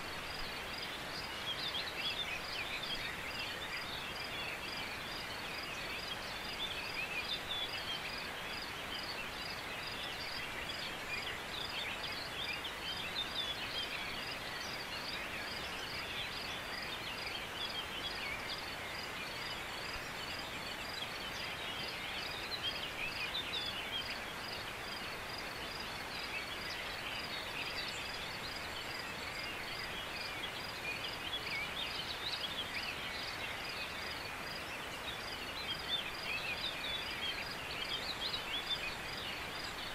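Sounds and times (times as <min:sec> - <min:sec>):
distant birds singing: 0:00.0 - 0:39.9.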